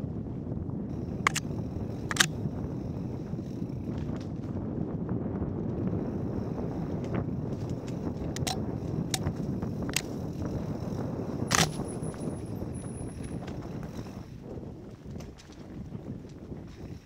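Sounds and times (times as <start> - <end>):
bike tyres rumbling on dirt: 0.0 - 17.0
wind on microphone: 0.0 - 17.0
sharp clacks from bike: 1.0 - 4.8, 5.8 - 17.0.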